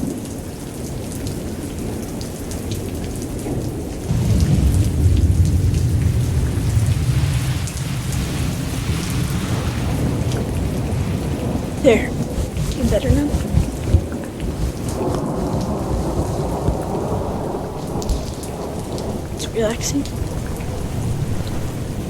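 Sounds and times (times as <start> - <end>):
steady rain: 0.0 - 22.0
low roll of thunder: 4.0 - 22.0.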